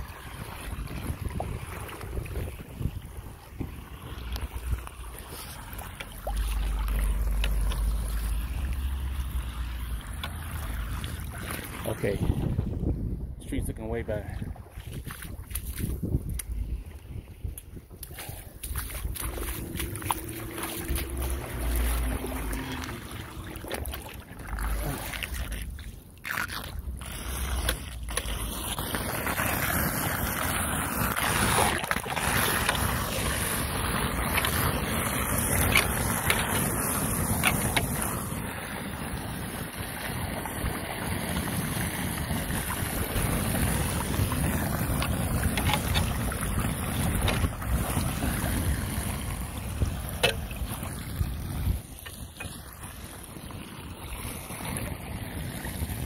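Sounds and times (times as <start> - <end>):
water rushing into storm drain: 0.0 - 56.0
wind rumbling on microphone: 0.0 - 56.0.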